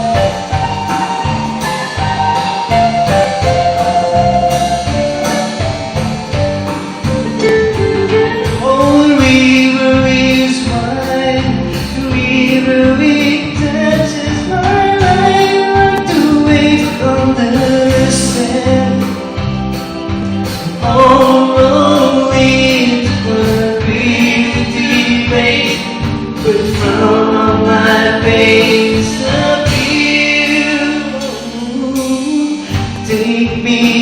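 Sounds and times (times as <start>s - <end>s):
live band playing folk-rock: 0.0s - 34.0s
person singing: 0.0s - 34.0s
steady drum beat: 0.0s - 34.0s.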